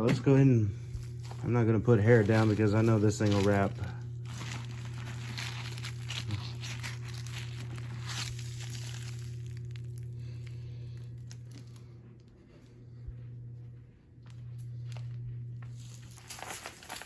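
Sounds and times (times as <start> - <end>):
steady low hum: 0.0 - 17.0
dry debris rustling onto carpet: 0.8 - 12.6, 14.2 - 17.0.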